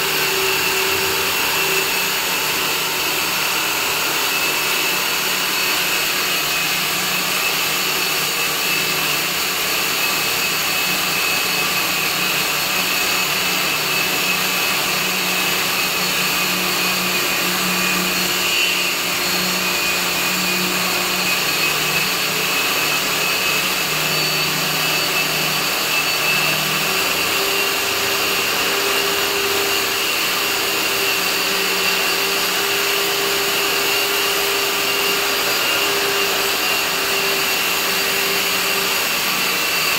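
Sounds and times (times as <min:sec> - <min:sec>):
electric core drill whining: 0:00.0 - 0:39.9.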